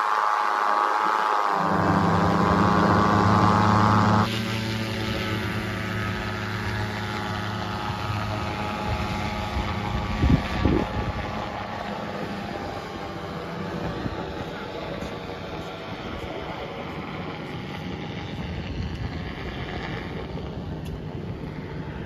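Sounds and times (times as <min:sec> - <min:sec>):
paramotor engine droning: 0:00.0 - 0:22.0.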